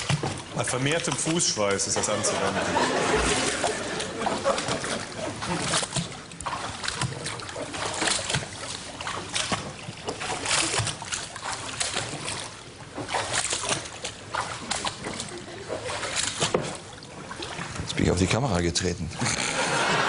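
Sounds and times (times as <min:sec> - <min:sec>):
feet splashing in water: 0:00.0 - 0:18.4.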